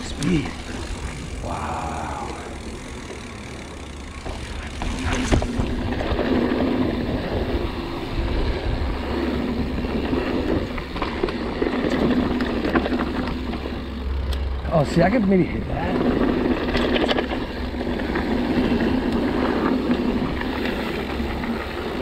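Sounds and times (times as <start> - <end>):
bike knocking and rattling: 0.0 - 22.0
tyre and wind rumble: 0.0 - 22.0.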